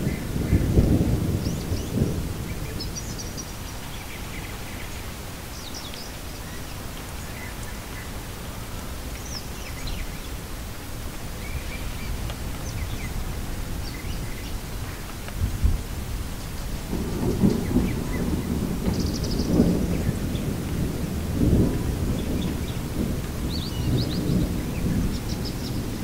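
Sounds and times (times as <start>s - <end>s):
low thunder rumble: 0.0s - 26.0s
steady rain: 0.0s - 26.0s.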